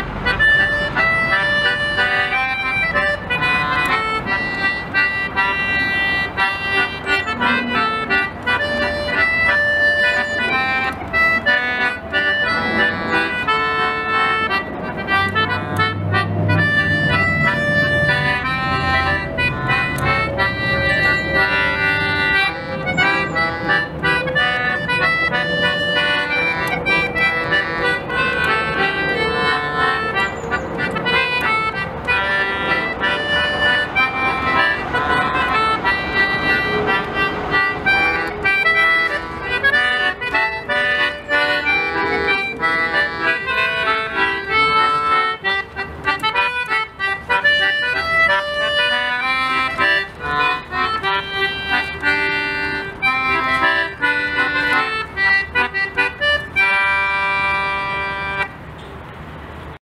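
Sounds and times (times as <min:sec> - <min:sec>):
concertina playing a tune: 0:00.0 - 0:58.6.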